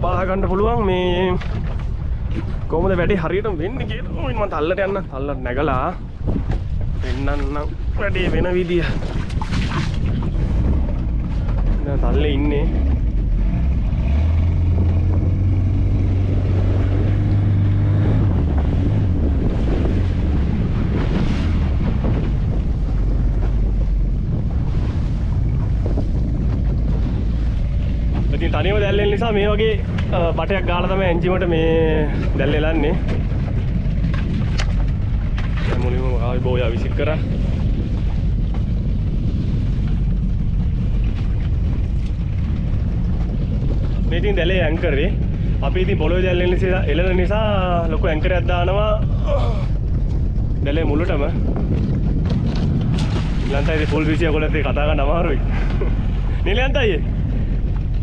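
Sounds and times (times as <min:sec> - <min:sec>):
sea rushing past hull: 0:00.0 - 0:58.0
wind buffeting microphone: 0:00.0 - 0:58.0
outboard motor humming: 0:00.2 - 0:48.2, 0:51.2 - 0:58.0.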